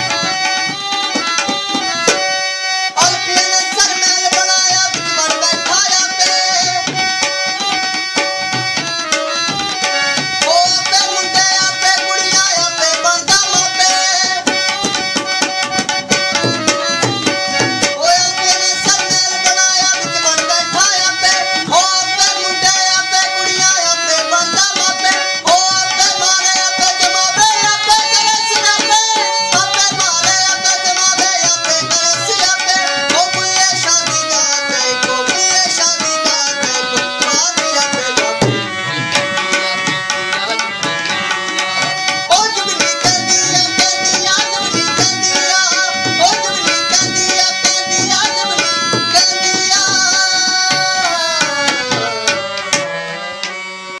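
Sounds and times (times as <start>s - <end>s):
harmonium melody over drone: 0.0s - 54.0s
tabla strokes: 3.1s - 53.9s.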